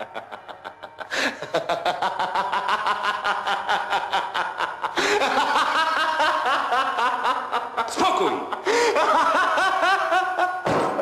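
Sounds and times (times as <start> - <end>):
man laughing loudly: 0.0 - 10.7.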